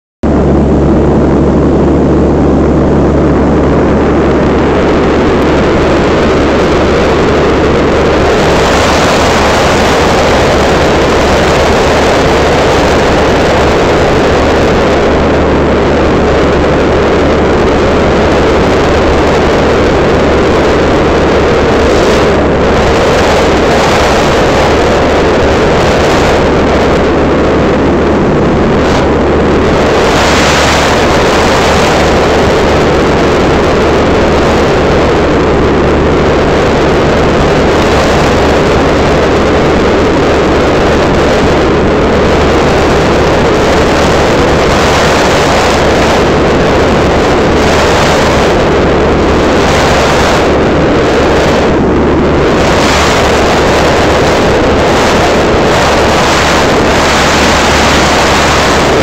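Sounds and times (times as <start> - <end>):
propeller engine droning: 0.0 - 59.0
rush of air: 0.2 - 59.0.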